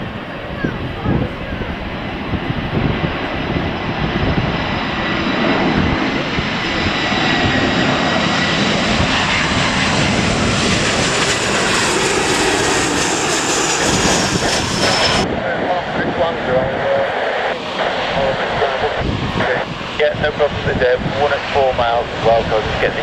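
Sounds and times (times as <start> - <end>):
jet airliner engines whining: 0.0 - 23.0
wind buffeting: 0.0 - 23.0.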